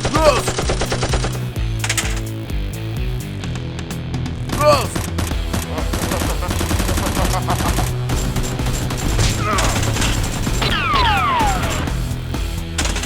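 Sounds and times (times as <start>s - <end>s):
rapid gunfire: 0.0s - 2.4s, 4.5s - 13.0s
background music: 0.0s - 13.0s.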